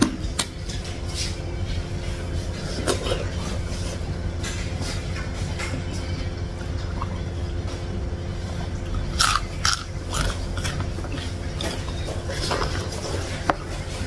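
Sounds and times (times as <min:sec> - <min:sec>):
chewing and biting food: 0:02.5 - 0:14.0.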